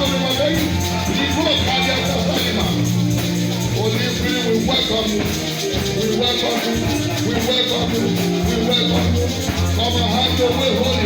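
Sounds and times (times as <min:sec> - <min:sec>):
bass: 0:00.0 - 0:11.0
live church band music: 0:00.0 - 0:11.0
shaker: 0:00.0 - 0:11.0.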